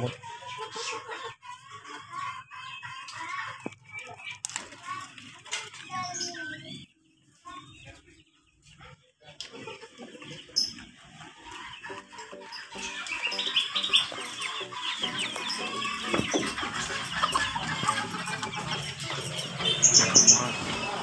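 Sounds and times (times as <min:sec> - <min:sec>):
caged birds chirping: 0:00.0 - 0:21.0
chickens clucking: 0:00.0 - 0:21.0.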